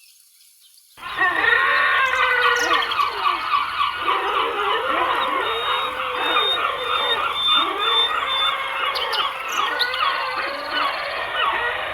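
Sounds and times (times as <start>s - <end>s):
chorus of wild animals calling: 1.0s - 11.9s.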